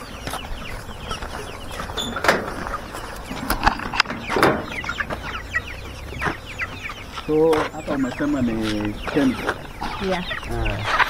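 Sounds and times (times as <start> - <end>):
chickens peeping and clucking: 0.0 - 11.0.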